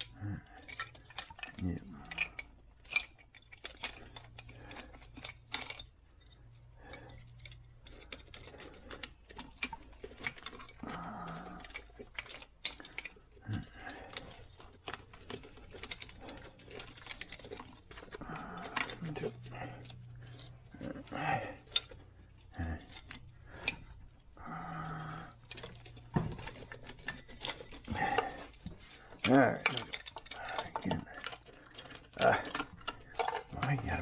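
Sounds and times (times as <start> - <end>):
small parts and hand tools rattling: 0.0 - 34.0.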